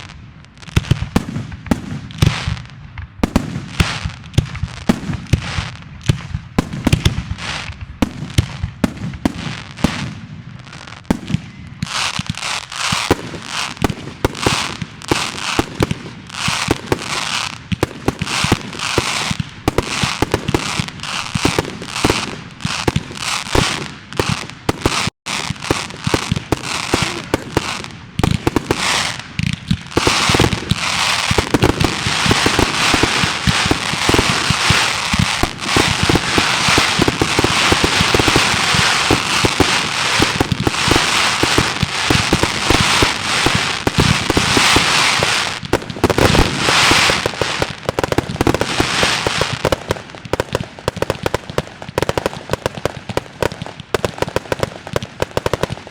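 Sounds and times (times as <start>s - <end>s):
fireworks cracking and banging: 0.0s - 55.9s.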